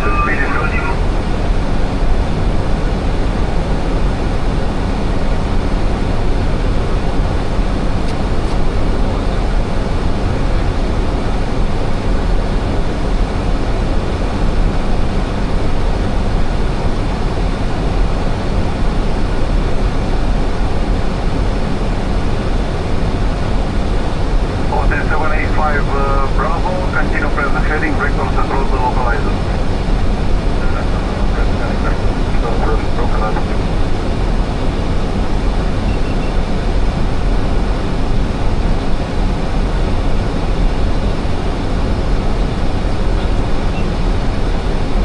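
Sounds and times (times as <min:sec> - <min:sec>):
aircraft engine hum: 0:00.0 - 0:45.0
airflow rush in cockpit: 0:00.0 - 0:45.0.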